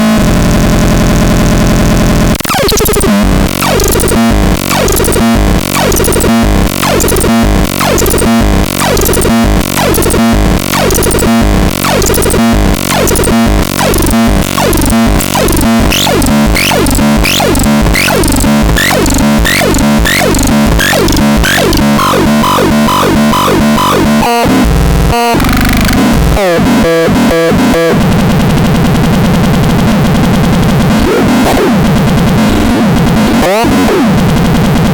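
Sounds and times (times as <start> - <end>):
harsh buzzing synthesizer: 0.0 - 34.8.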